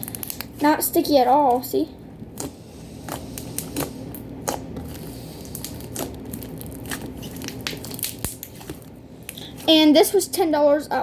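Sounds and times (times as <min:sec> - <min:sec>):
slime squelching: 0:00.0 - 0:10.5.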